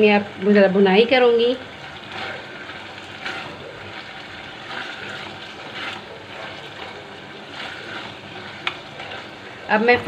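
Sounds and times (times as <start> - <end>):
food sizzling in a pot: 0.0 - 10.0
spatula stirring: 0.0 - 10.0.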